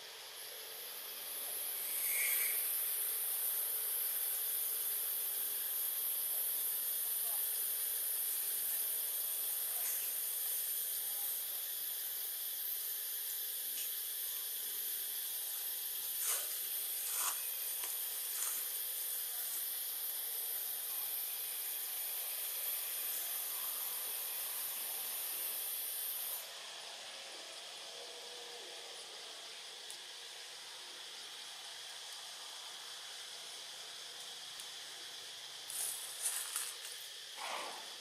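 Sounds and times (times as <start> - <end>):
steady high-pitched hiss: 0.0 - 38.0.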